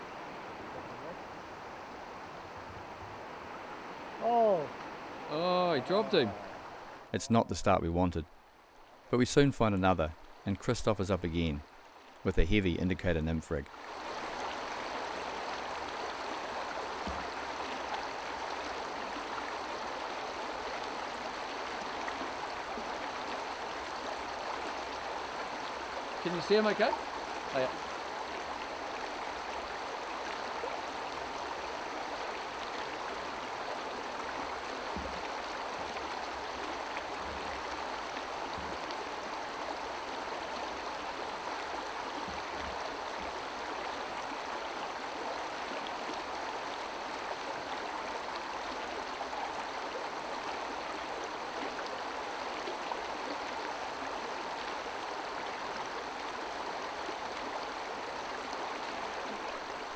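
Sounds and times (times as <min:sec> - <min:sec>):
river flowing over stones: 0:00.0 - 0:07.4, 0:13.7 - 0:59.9.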